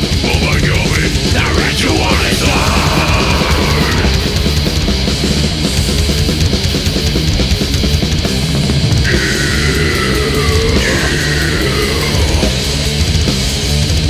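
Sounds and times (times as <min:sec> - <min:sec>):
death metal song: 0:00.0 - 0:14.0.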